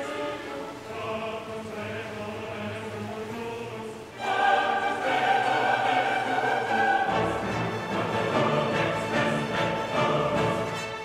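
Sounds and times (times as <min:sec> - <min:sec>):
choir singing long held notes: 0:00.0 - 0:11.0.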